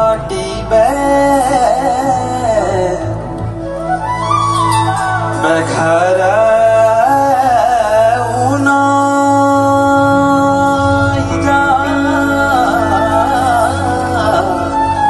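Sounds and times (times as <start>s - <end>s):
man singing ornamented melody: 0.0s - 3.5s, 5.2s - 15.0s
folk-fusion band: 0.0s - 15.0s.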